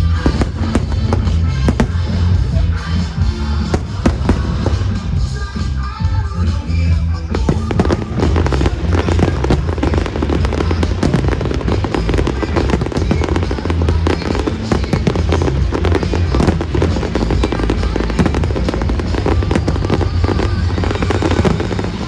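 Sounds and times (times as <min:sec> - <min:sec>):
fireworks bangs and crackling: 0:00.0 - 0:22.0
loud music: 0:00.0 - 0:22.0.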